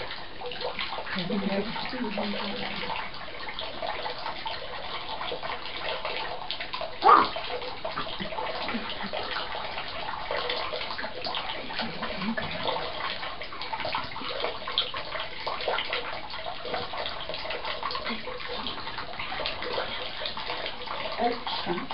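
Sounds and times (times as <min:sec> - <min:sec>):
parrot splashing in water: 0:00.0 - 0:21.9.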